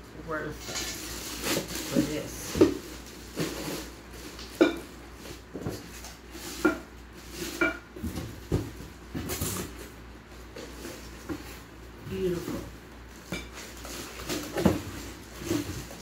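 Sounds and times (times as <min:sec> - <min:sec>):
plastic wrapping rustling: 0:00.5 - 0:16.0.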